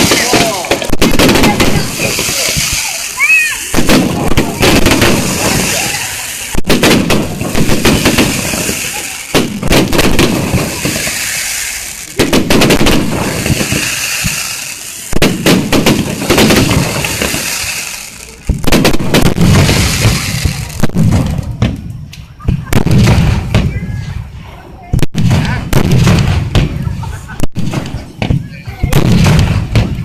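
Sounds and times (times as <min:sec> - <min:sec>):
fireworks bursting with sharp bangs: 0:00.0 - 0:30.0
fireworks crackling: 0:00.0 - 0:30.0.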